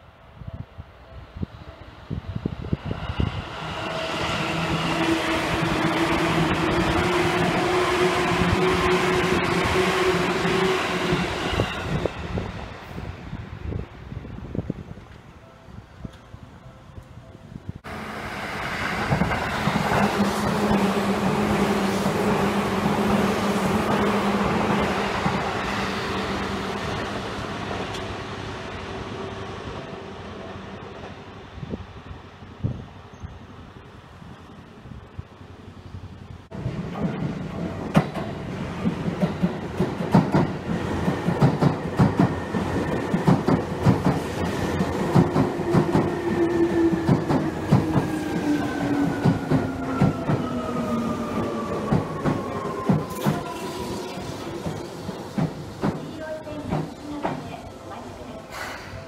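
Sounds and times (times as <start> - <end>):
electric train passing: 0.0 - 59.0.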